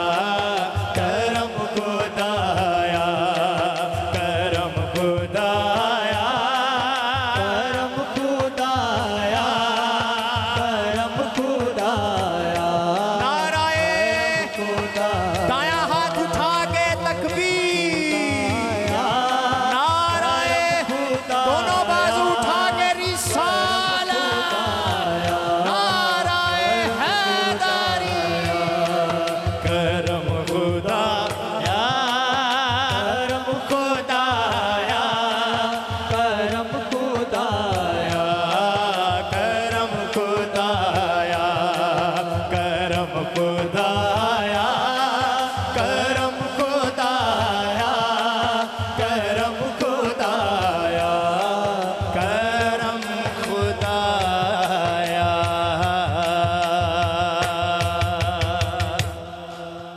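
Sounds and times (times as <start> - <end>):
frame drums beating: 0.0 - 59.9
person singing devotional song: 0.0 - 59.9.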